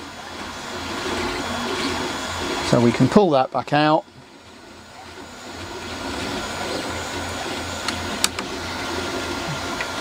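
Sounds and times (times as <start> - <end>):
model locomotive running on track: 0.0 - 10.0.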